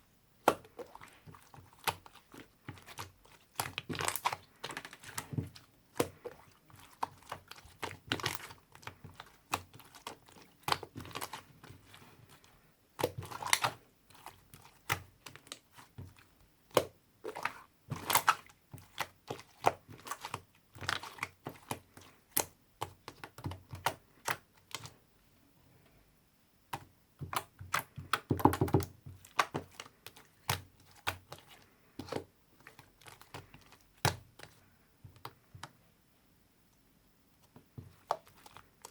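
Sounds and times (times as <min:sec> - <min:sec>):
hands handling craft materials: 0:00.4 - 0:25.0, 0:26.7 - 0:35.8, 0:37.4 - 0:38.9.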